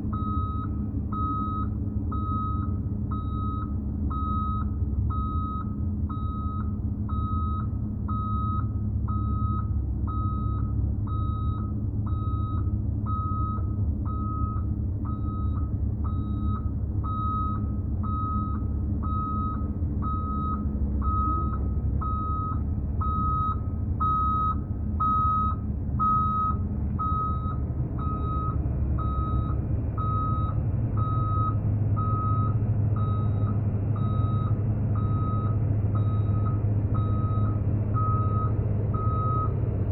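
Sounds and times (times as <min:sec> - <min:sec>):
diesel engine running: 0:00.0 - 0:39.9
reversing alarm beeping: 0:00.1 - 0:39.6.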